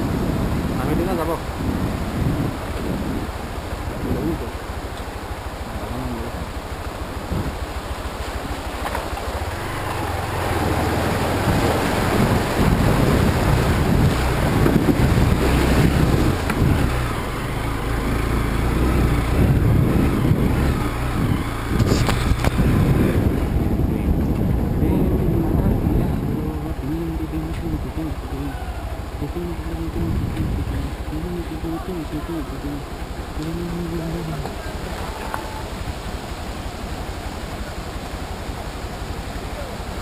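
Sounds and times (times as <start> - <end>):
water splashing around wheels: 0.0 - 40.0
dirt bike engine running: 1.5 - 35.1.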